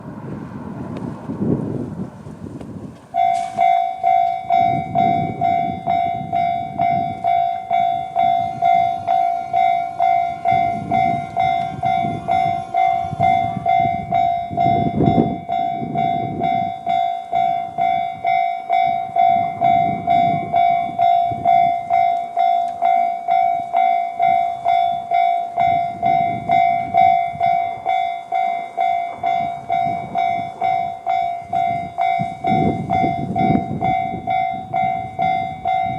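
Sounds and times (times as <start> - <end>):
wind buffeting microphone: 0.0 - 35.9
level crossing electronic bell: 3.2 - 35.9.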